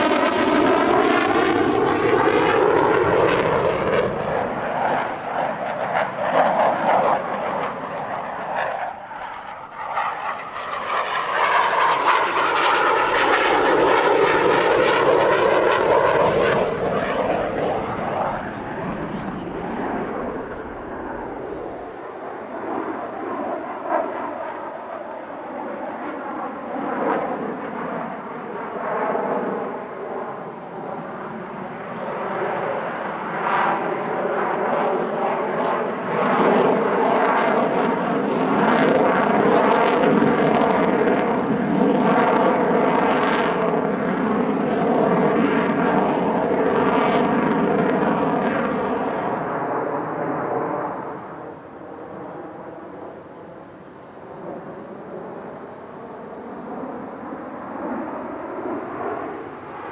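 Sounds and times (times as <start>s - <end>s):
fighter jet engines roaring: 0.0s - 59.9s.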